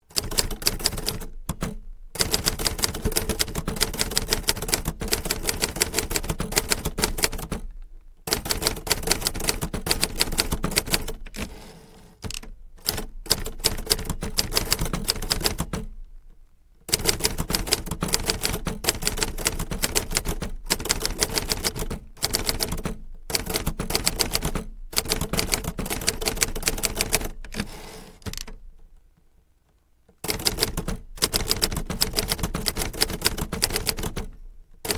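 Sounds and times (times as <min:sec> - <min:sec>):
typewriter keys typing: 0:00.1 - 0:07.7, 0:08.3 - 0:15.9, 0:16.9 - 0:28.7, 0:30.2 - 0:34.9.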